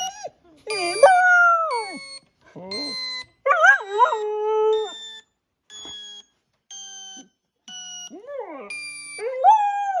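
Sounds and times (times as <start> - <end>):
electronic alarm tones: 0.0 - 9.9.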